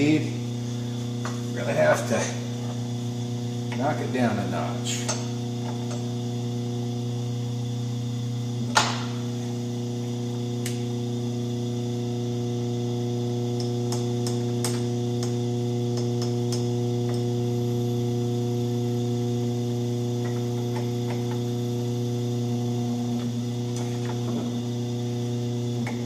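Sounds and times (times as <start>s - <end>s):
electric motor humming: 0.0s - 26.0s.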